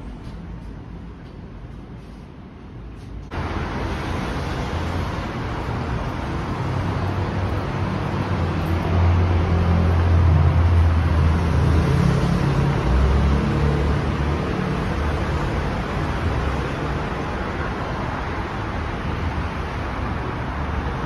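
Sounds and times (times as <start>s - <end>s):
dense road traffic rumble: 0.0s - 21.0s.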